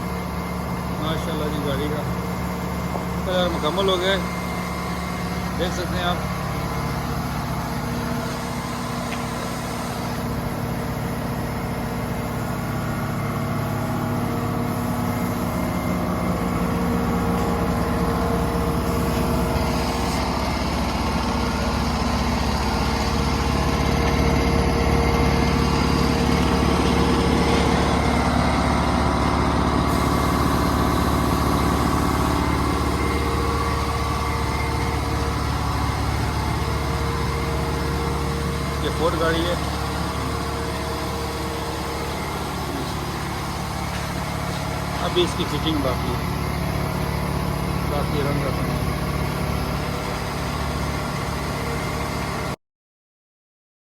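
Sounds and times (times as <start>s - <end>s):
engine humming: 2.6s - 50.4s.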